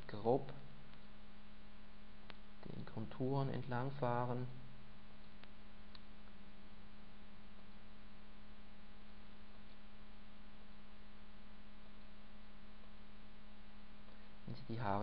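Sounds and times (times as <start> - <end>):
faint hiss: 0.0 - 15.0
low electrical hum: 0.0 - 15.0.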